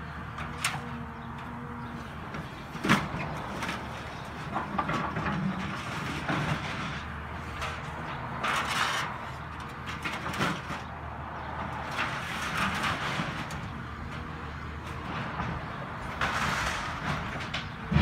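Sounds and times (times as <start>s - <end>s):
wood and siding crunching: 0.0s - 18.0s.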